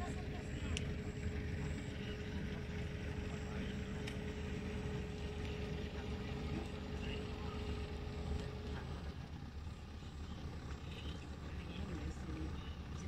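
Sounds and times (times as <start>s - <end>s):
constant hum: 0.0s - 13.0s
low engine rumble: 0.0s - 13.0s.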